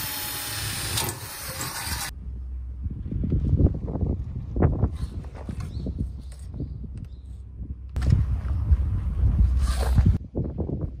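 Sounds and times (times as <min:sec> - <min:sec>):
low microphone rumble: 0:02.1 - 0:11.0.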